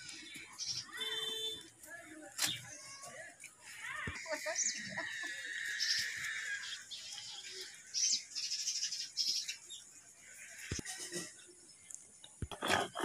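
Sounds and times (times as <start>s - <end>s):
birds chirping: 0.0s - 12.5s.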